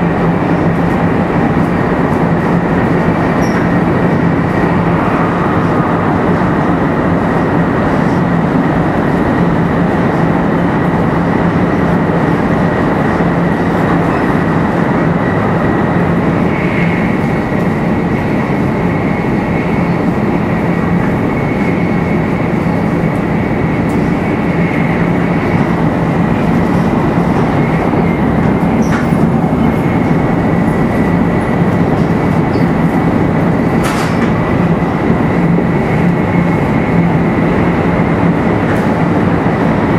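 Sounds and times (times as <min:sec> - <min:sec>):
high-speed train running: 0:00.0 - 0:39.9.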